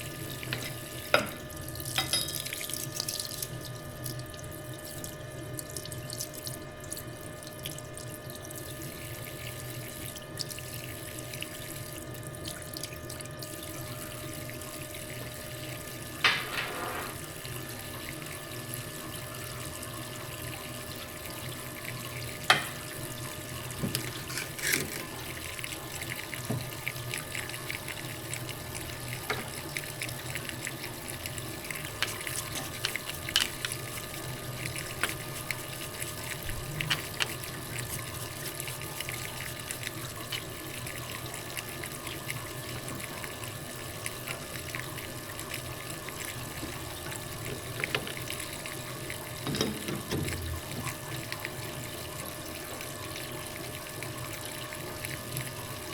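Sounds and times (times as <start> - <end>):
coolant liquid hissing: 0.0 - 55.9.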